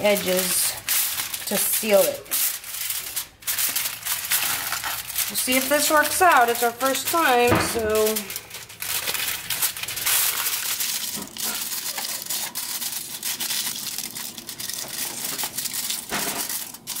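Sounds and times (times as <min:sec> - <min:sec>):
aluminium foil crinkling: 0:00.0 - 0:17.0.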